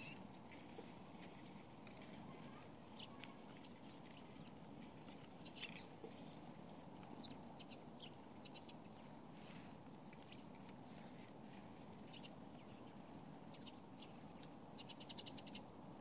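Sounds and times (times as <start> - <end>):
low steady background hum: 0.0 - 16.0
small birds chirping: 0.0 - 16.0.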